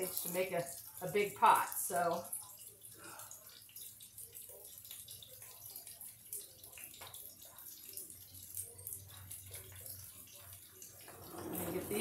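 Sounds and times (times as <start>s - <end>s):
onions sizzling and popping in oil: 0.0s - 11.1s.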